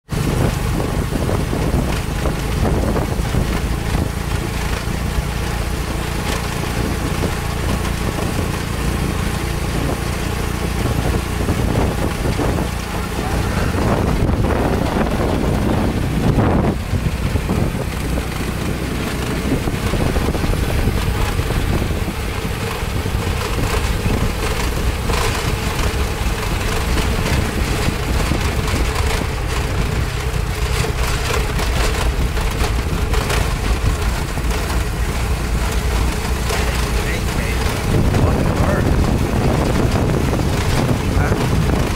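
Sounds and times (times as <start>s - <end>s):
motorbike engine running: 0.0s - 41.9s
road and wind noise: 0.0s - 41.9s.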